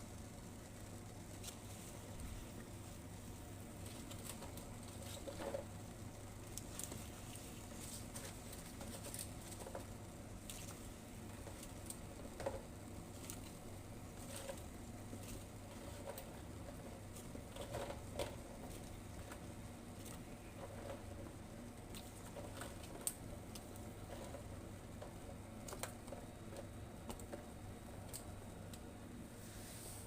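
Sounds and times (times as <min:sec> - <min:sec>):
pot simmering with bubbling pops: 0:00.0 - 0:29.3
steady low hum: 0:00.0 - 0:30.0.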